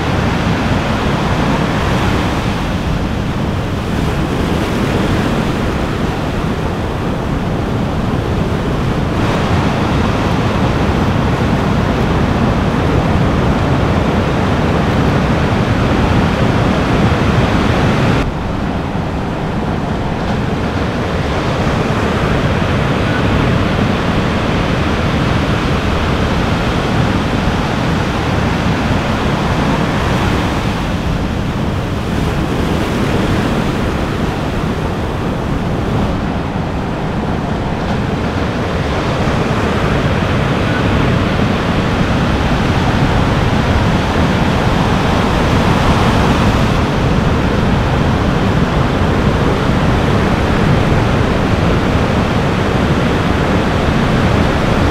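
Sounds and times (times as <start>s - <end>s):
waves breaking: 0.0s - 54.9s
wind buffeting microphone: 0.0s - 54.9s.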